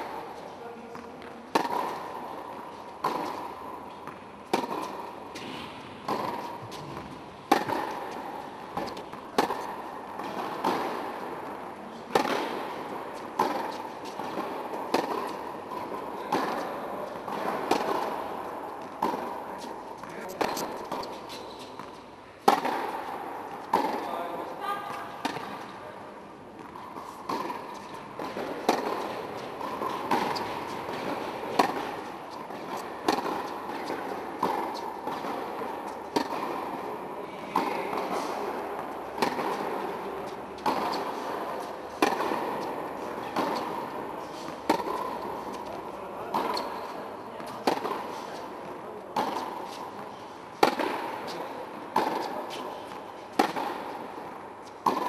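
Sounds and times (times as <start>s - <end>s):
tennis rackets striking ball: 0.0s - 55.0s.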